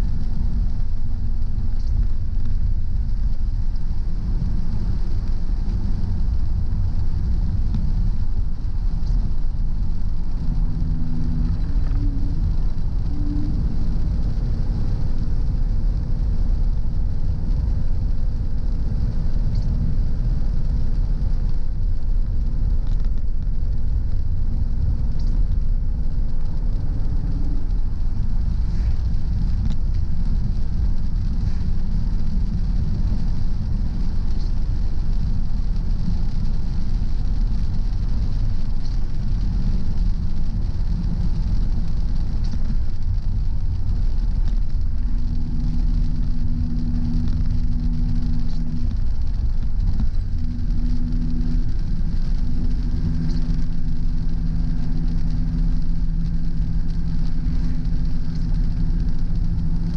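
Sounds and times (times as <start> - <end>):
car engine and tyre rumble: 0.0 - 59.9
tyres hissing on wet road: 0.0 - 59.9.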